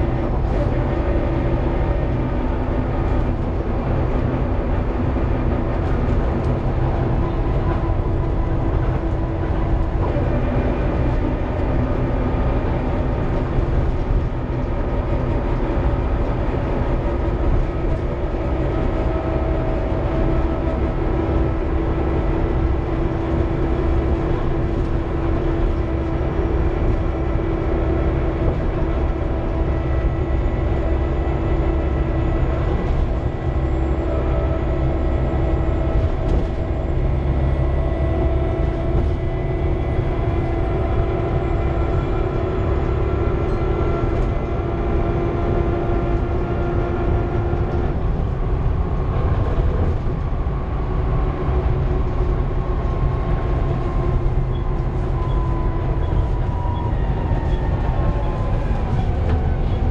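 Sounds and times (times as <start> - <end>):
diesel bus engine running: 0.0 - 59.9
road rumble: 0.0 - 59.9.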